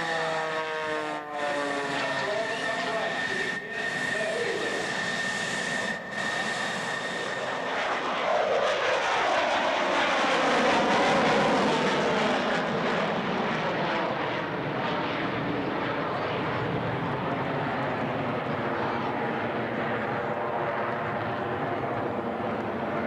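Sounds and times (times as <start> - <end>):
airplane flying past: 0.0 - 23.0.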